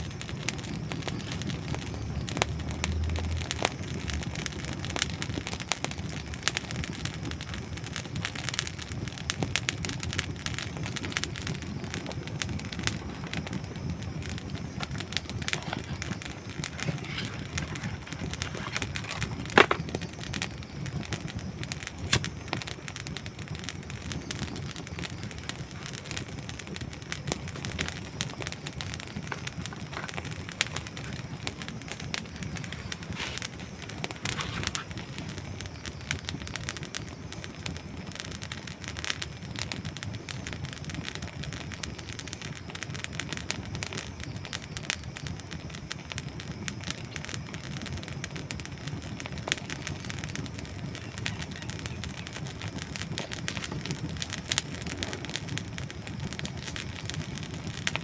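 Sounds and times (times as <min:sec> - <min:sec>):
campfire crackling and popping: 0:00.0 - 0:58.0
low rumble of flame: 0:00.0 - 0:58.0.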